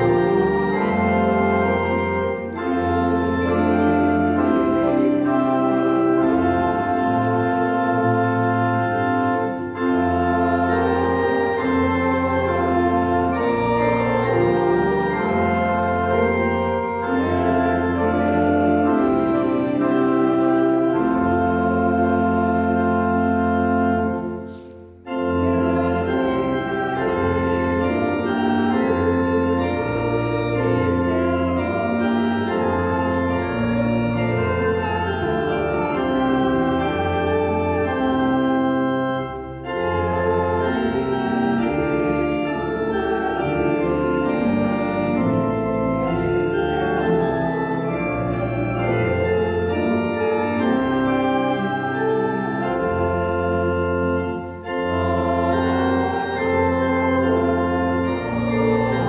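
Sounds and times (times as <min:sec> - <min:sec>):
church organ playing held chords: 0:00.0 - 0:59.0.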